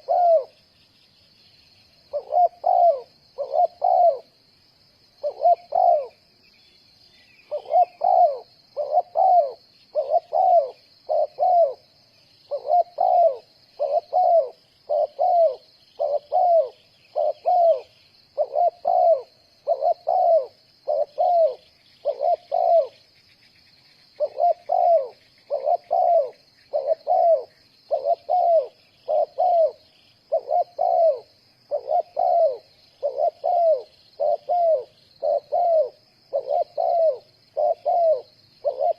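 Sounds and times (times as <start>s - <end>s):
dove cooing: 0.0s - 0.6s, 2.1s - 4.4s, 5.2s - 6.2s, 7.4s - 23.1s, 24.1s - 38.9s
faint steady high hiss: 0.0s - 38.9s
small birds chirping: 0.0s - 38.9s.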